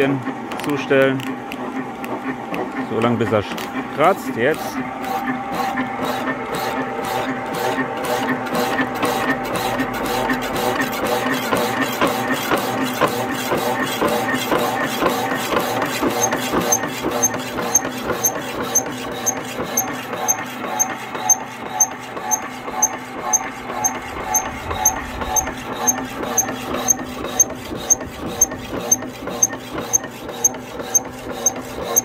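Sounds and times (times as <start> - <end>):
motor hum: 0.0 - 32.0
hacksaw blade rasping metal: 4.5 - 32.0.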